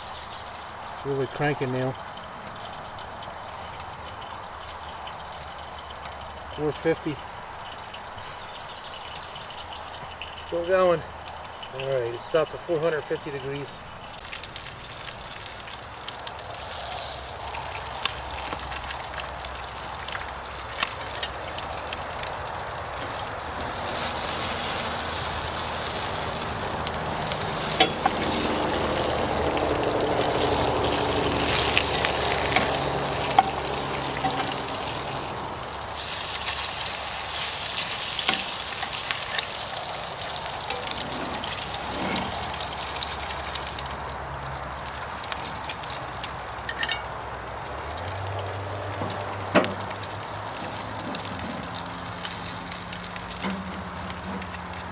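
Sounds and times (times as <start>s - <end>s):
meat sizzling on a grill: 0.0s - 54.9s.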